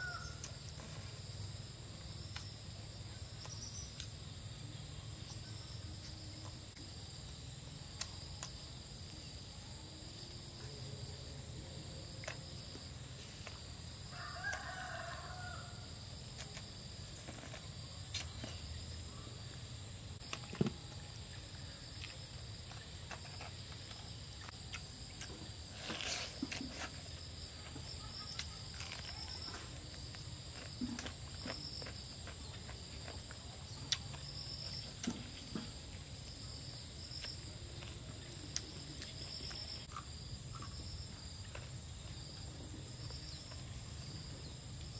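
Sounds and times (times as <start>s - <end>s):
crickets chirring: 0.0s - 44.9s.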